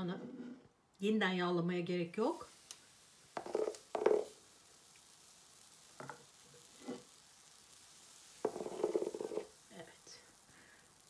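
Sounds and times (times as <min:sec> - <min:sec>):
batter sizzling: 0:01.7 - 0:11.0.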